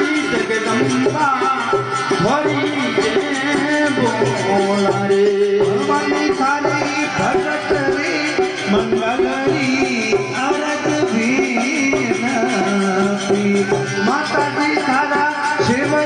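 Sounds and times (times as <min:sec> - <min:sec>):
hand drum rhythm: 0:00.0 - 0:16.0.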